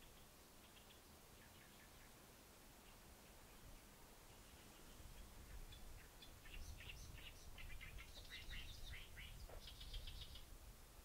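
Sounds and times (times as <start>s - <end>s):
songbird chirping and trilling: 0.0s - 2.2s, 2.8s - 10.6s.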